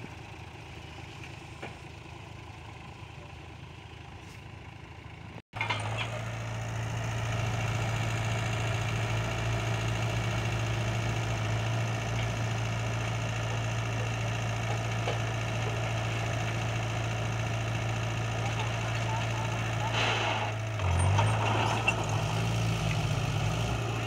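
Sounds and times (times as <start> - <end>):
diesel engines droning: 0.0 - 24.0.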